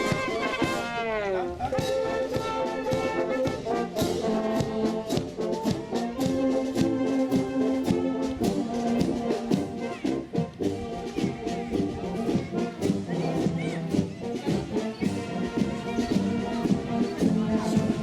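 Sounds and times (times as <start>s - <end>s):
steady drum beat: 0.0s - 18.0s
trombones and trumpets: 0.0s - 18.0s.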